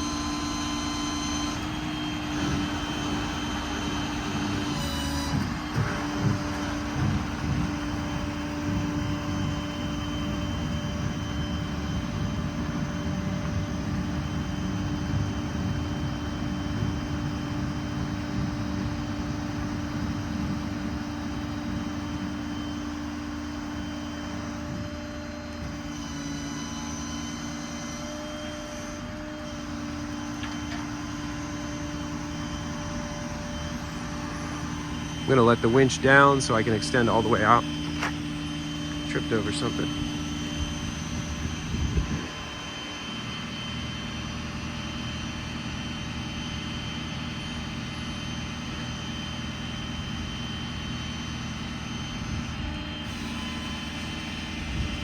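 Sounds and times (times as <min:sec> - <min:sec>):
diesel engine rumble: 0:00.0 - 0:26.1, 0:26.9 - 0:55.0
hydraulic whine: 0:00.0 - 0:55.0.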